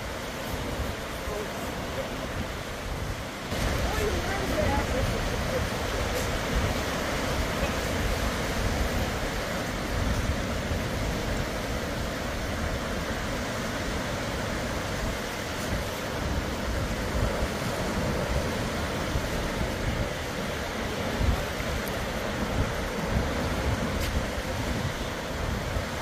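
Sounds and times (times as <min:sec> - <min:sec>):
surf breaking on beach: 0:00.0 - 0:26.0
wind rumbling on microphone: 0:00.0 - 0:26.0.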